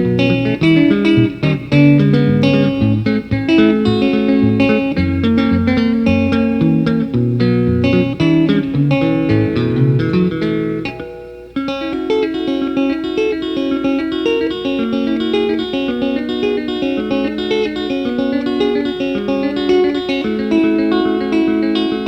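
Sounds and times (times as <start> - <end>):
plucked guitar music with bass: 0.0 - 22.0.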